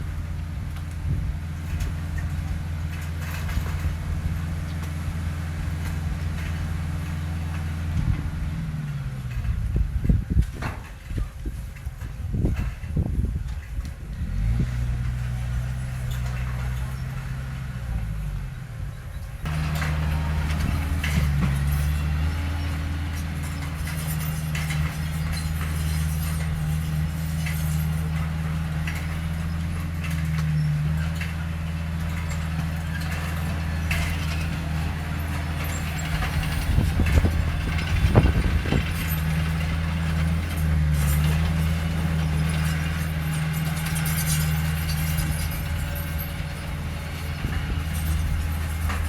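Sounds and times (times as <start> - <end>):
heavy diesel engine running: 0.0 - 49.0
metallic clanks and rattles: 0.8 - 13.9, 19.4 - 49.0.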